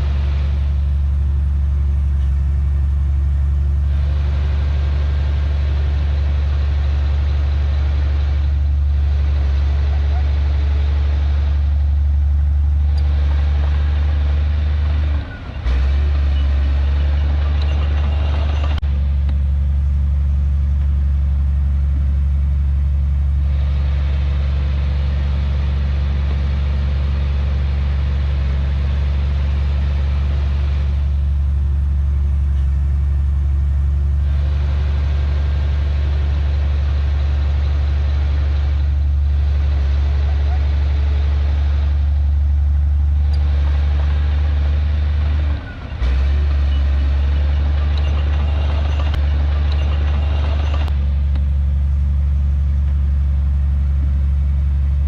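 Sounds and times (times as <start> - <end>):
heavy diesel machinery drone: 0.0 - 55.0.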